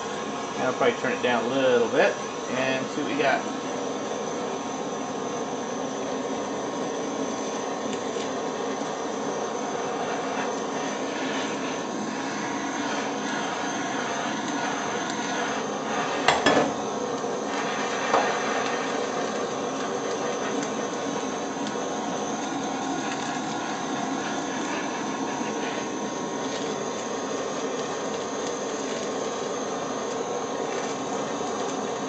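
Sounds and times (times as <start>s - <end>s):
butane torch hissing: 0.0s - 32.0s
immersion circulator hum: 0.0s - 32.0s.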